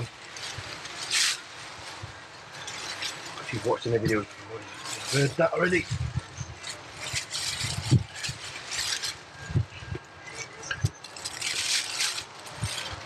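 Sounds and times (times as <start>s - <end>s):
cloth rubbing on metal: 0.0s - 13.0s.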